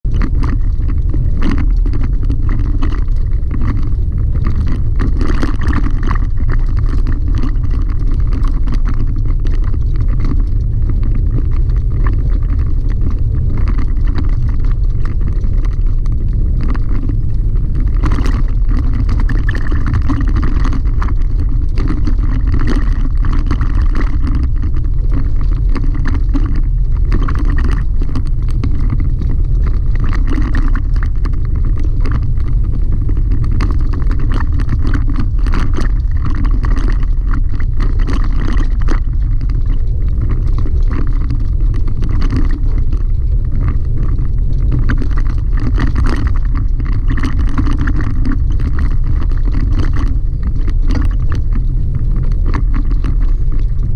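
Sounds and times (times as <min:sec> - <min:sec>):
tyres rumbling on gravel: 0:00.0 - 0:53.9.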